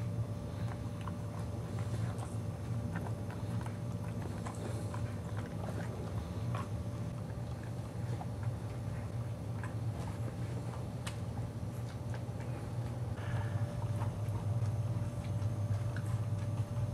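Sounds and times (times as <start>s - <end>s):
puppies mouth smacks and clicks: 0.0s - 16.9s
steady low hum: 0.0s - 16.9s.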